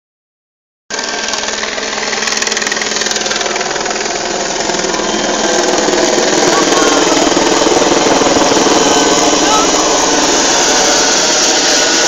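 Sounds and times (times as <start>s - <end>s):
helicopter rotor chopping: 0.9s - 12.0s.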